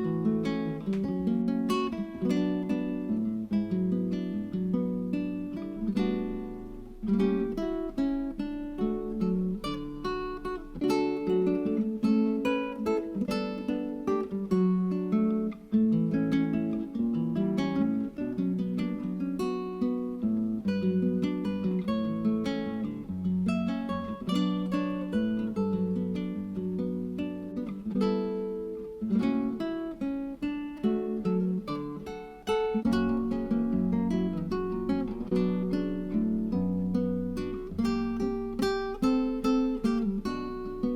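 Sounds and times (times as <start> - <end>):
acoustic guitar picking: 0.0 - 40.9.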